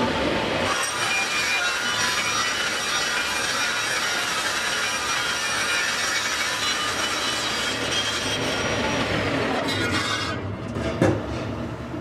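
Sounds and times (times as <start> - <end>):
table saw cutting wood: 0.6 - 10.4.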